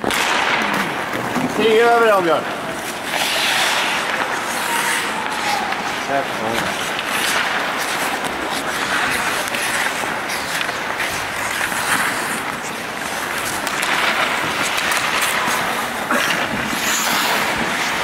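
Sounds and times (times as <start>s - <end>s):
clacks of sticks and puck: 0.0s - 18.0s
skates scraping on ice: 0.0s - 18.0s.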